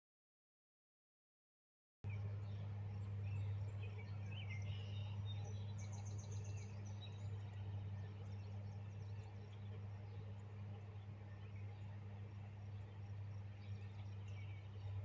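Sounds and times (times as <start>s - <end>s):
steady low hum: 2.0s - 15.0s
birds chirping and twittering: 2.1s - 15.0s.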